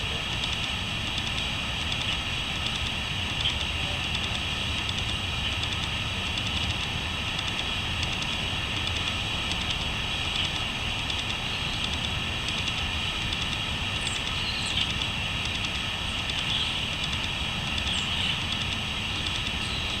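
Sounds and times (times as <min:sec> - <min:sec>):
low steady rumble: 0:00.0 - 0:20.0
crickets chirping: 0:03.4 - 0:20.0.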